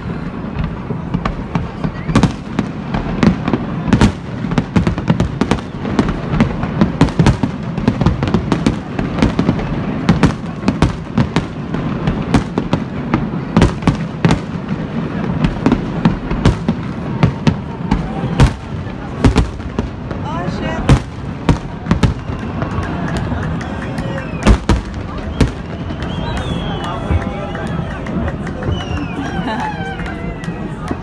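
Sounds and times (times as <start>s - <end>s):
fireworks bursting: 0.0s - 31.0s
fireworks crackle: 0.0s - 31.0s.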